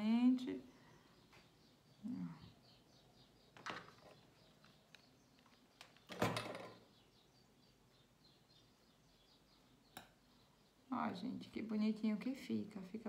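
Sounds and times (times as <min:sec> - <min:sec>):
faint bird chirps: 0:00.3 - 0:13.0.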